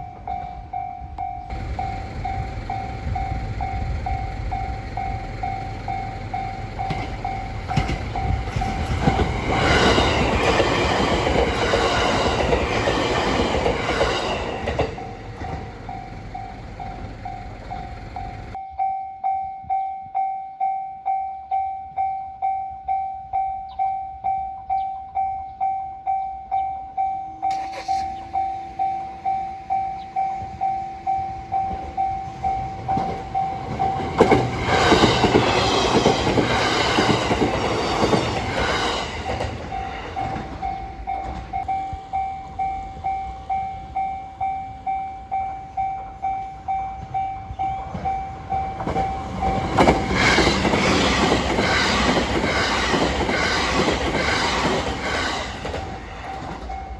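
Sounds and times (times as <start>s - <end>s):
train wheels rumbling and clacking: 0.0s - 18.6s, 27.5s - 45.4s, 46.2s - 56.9s
level-crossing warning bell: 0.0s - 56.9s.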